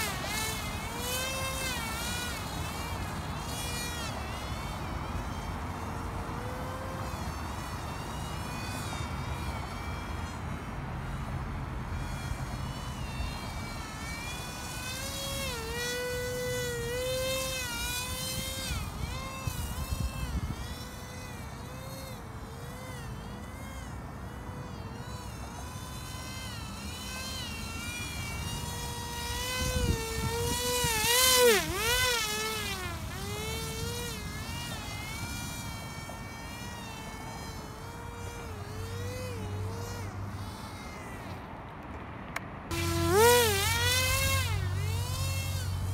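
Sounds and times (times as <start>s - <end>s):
electric motor and propeller buzzing: 0.0s - 45.9s.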